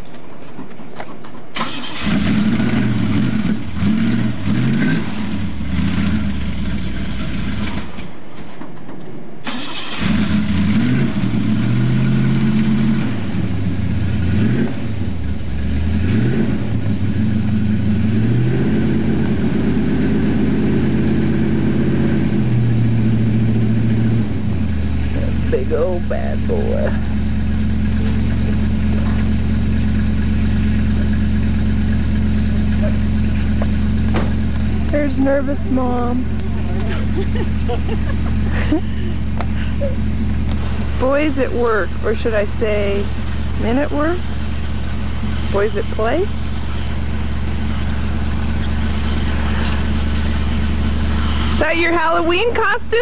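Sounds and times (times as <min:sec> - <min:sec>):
truck engine revving: 0:01.6 - 0:08.1, 0:09.5 - 0:53.0.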